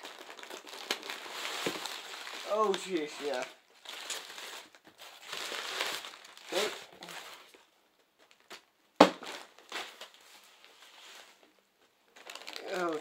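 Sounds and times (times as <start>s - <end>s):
plastic packaging crinkling: 0.0s - 11.5s, 12.1s - 13.0s.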